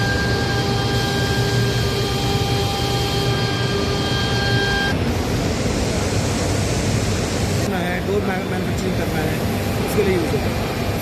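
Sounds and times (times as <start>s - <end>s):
high even whine: 0.0s - 11.0s
machinery rushing hum: 0.0s - 11.0s.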